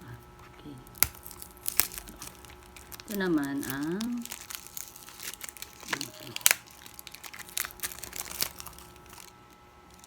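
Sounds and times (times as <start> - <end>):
packaging crinkling: 0.2 - 10.0.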